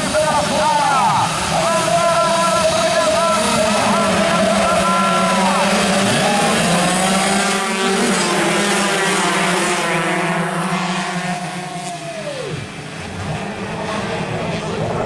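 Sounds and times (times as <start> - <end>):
racing motorcycles at high revs: 1.2 - 15.0.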